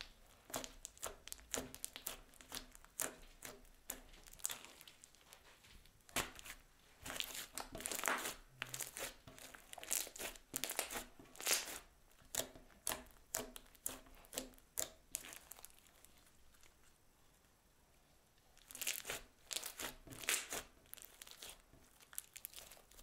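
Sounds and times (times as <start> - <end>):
crunchy slime crackling and popping: 0.0 - 16.8, 18.6 - 23.0.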